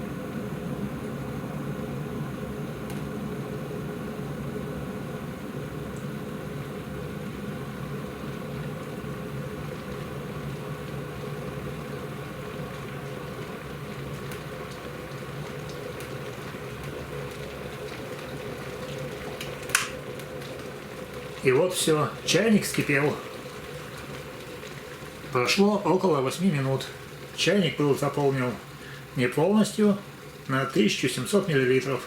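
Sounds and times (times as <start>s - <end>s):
kettle heating water: 0.0s - 32.0s.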